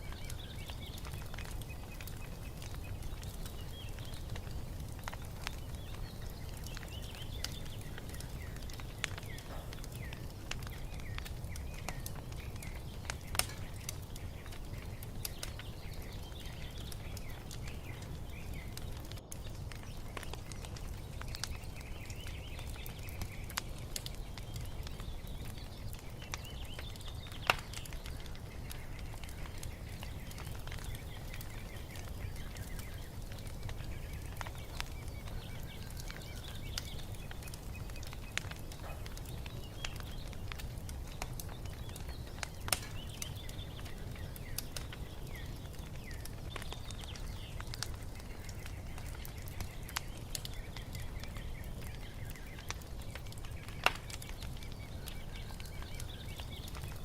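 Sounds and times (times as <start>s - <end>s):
small birds chirping: 0.0s - 57.0s
wood fire crackling: 0.0s - 57.0s.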